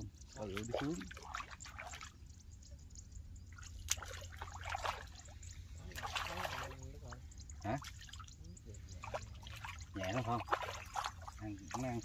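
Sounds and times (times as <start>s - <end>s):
fish splashing and thrashing: 0.4s - 2.3s, 3.5s - 12.0s.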